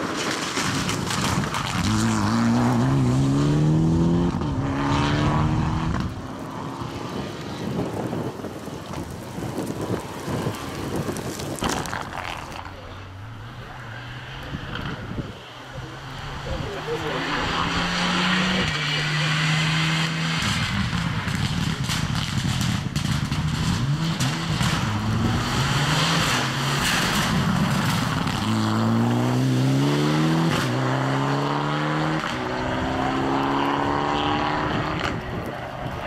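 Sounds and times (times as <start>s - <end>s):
exhaust crackles and pops: 0.0s - 3.6s, 4.2s - 17.8s, 18.5s - 30.9s, 32.2s - 36.0s
rally car engine at full throttle: 0.0s - 36.0s.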